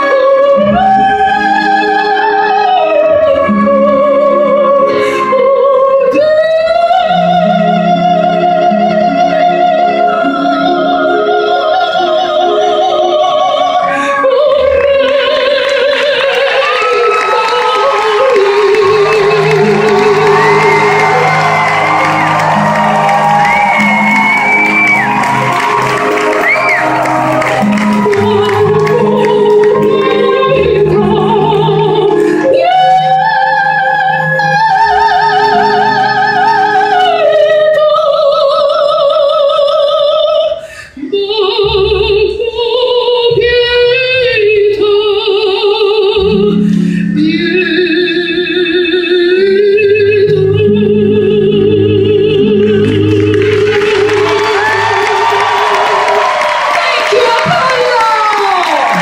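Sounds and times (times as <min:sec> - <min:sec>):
musical accompaniment: 0:00.0 - 0:59.0.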